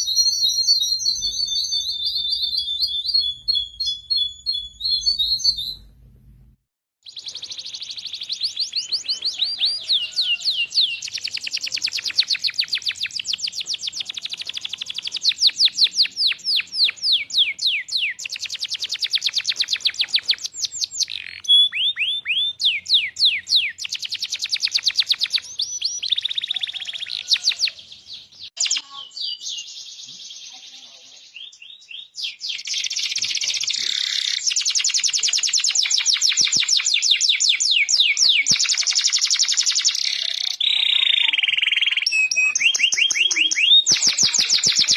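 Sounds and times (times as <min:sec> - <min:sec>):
canary singing trills: 0:00.0 - 0:05.9, 0:07.0 - 0:44.9.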